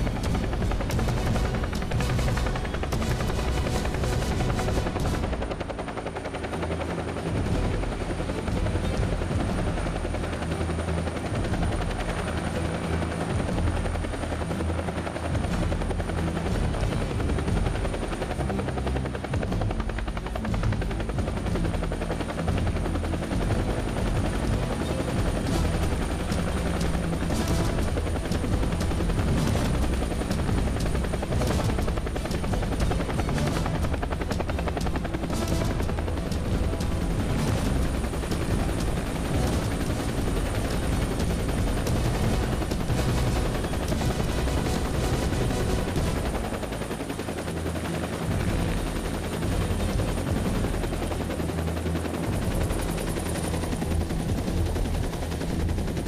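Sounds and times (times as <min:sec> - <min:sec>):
helicopter rotor beating: 0:00.0 - 0:56.0
turbine whine: 0:00.0 - 0:56.0.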